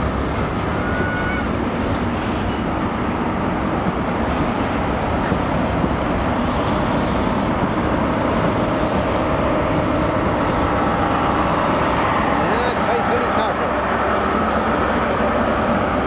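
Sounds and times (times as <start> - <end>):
train coaches rumbling on rails: 0.0 - 16.0.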